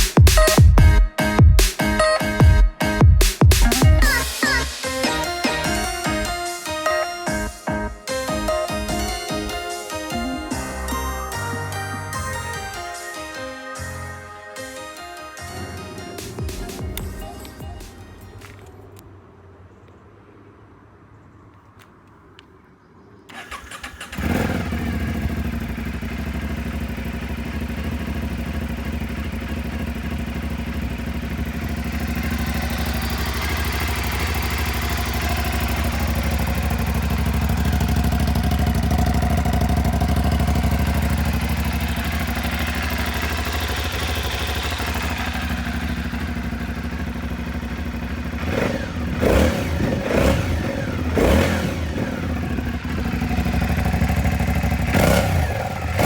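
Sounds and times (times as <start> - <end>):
motorcycle engine idling and revving: 0.0 - 12.8, 23.3 - 56.0.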